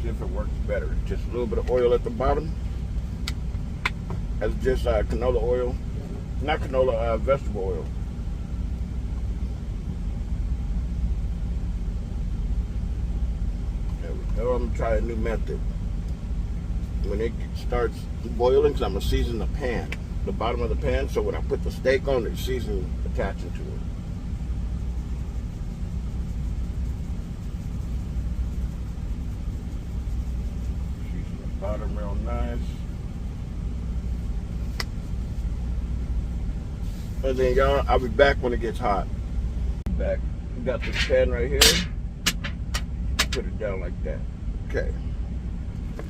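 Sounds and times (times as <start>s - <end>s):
truck engine idling: 0.0s - 46.0s.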